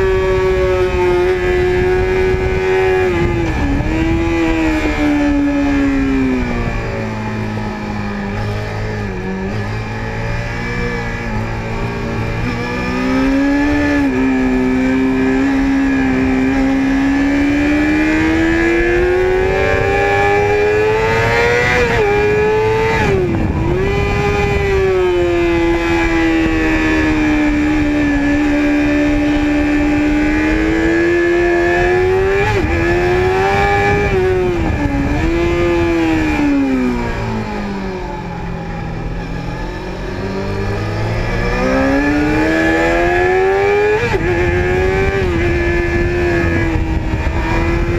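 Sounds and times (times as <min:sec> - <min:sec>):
motorcycle engine revving: 0:00.0 - 0:47.9
wind rush: 0:00.0 - 0:47.9.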